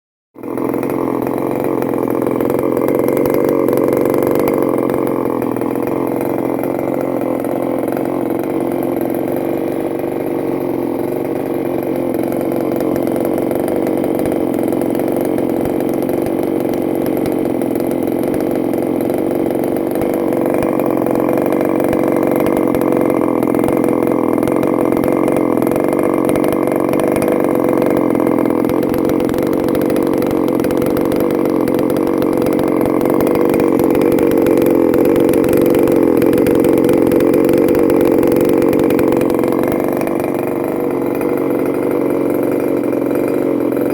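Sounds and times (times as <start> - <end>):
engine idling fast: 0.4 - 43.9.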